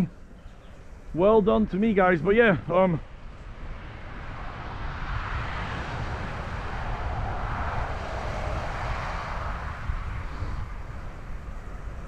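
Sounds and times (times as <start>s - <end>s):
rushing noise of riding bicycle: 0.0s - 12.0s
wind rumbling on microphone: 0.0s - 12.0s.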